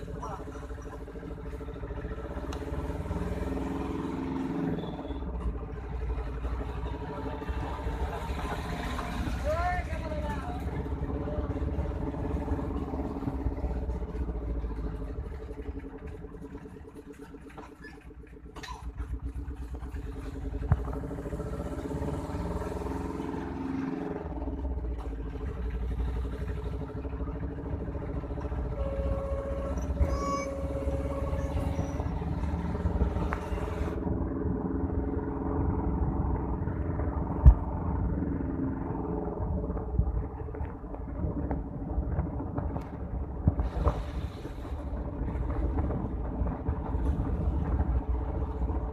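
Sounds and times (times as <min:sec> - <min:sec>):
low road rumble: 0:00.0 - 0:48.9
small vehicle engine running: 0:00.0 - 0:48.9.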